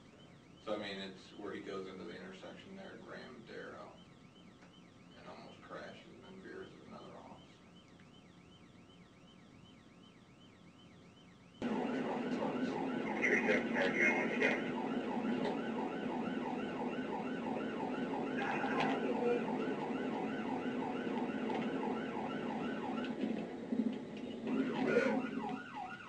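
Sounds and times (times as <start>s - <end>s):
police siren yelp: 0.0s - 26.0s.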